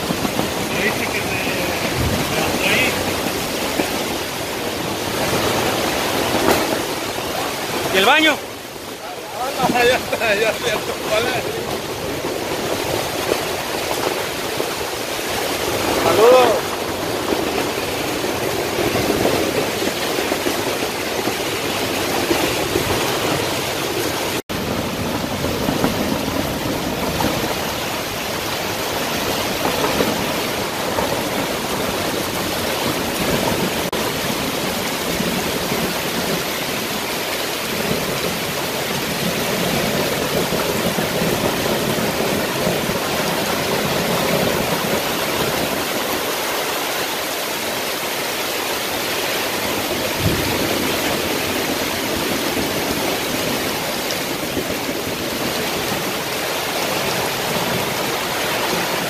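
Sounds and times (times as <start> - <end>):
heavy rain and wind on fabric roof: 0.0 - 59.0.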